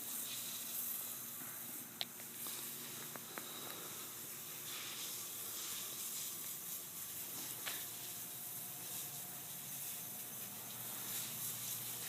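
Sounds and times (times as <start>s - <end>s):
faint high hiss: 0.0s - 12.0s.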